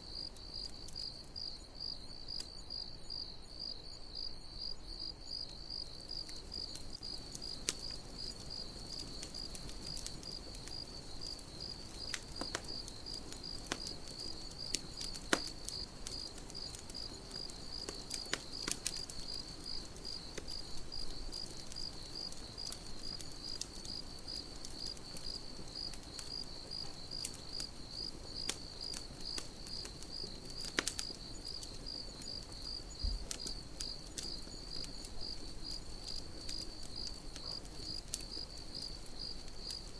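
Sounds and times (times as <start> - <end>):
campfire crackling and popping: 0.0 - 3.0, 5.1 - 39.9
crickets chirping: 0.0 - 39.9.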